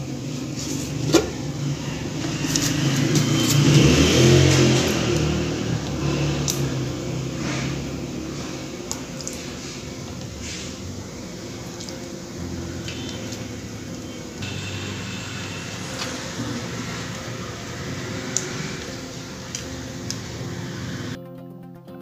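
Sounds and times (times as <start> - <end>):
vehicle engine humming: 0.0 - 21.2.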